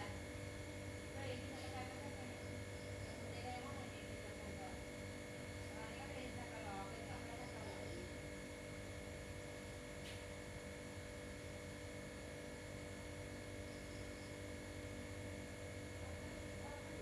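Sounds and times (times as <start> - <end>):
steady hum of faint tones: 0.0 - 17.0.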